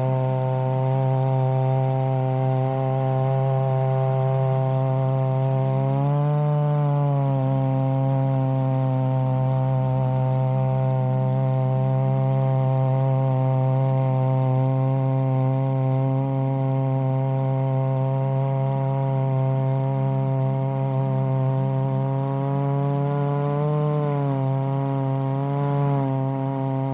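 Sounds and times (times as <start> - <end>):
chainsaw ripping a log: 0.0 - 26.9.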